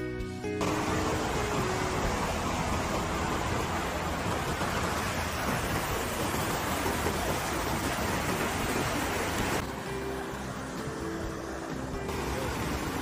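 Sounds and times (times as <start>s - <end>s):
river rushing over rapids: 0.6s - 13.0s.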